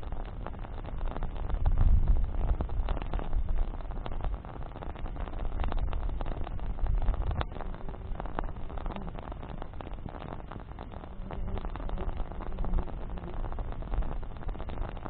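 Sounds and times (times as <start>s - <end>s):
campfire flame rumble: 0.0s - 15.0s
fire crackles and pops: 0.0s - 15.0s.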